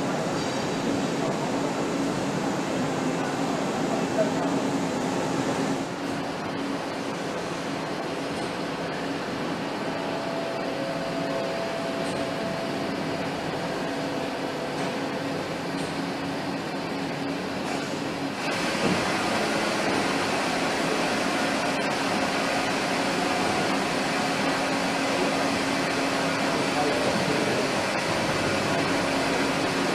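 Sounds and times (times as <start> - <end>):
factory machinery hum: 0.0 - 29.9.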